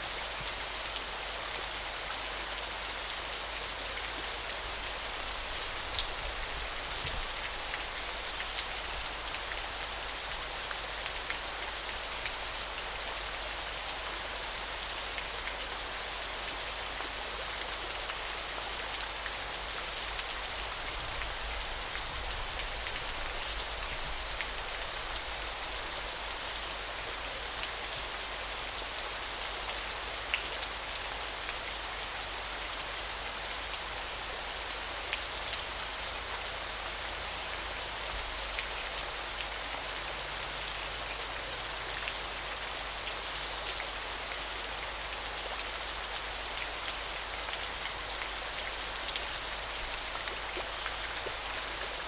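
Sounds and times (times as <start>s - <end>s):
flowing water rushing: 0.0s - 52.0s.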